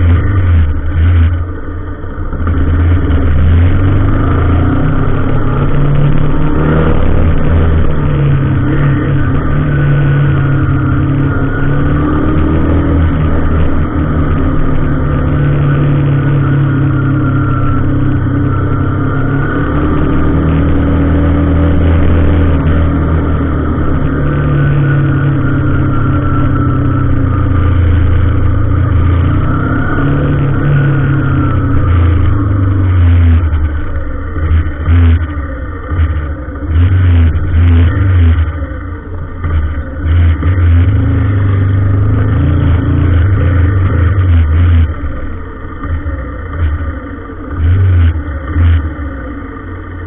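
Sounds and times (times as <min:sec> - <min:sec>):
vehicle engine revving: 0:00.0 - 0:50.0.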